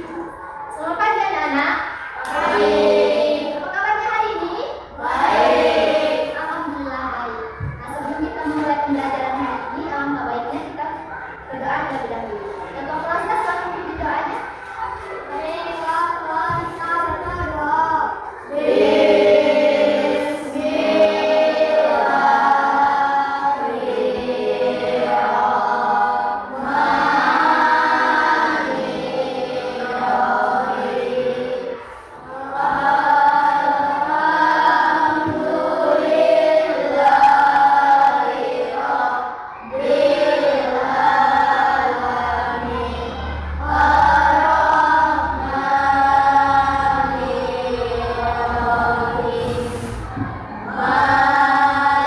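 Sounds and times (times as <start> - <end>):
children singing in unison: 0.0 - 52.0.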